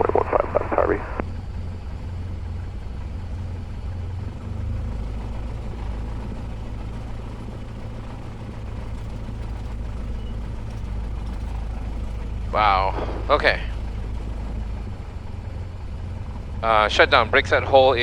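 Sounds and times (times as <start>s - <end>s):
light aircraft engine at low power: 0.0s - 18.0s.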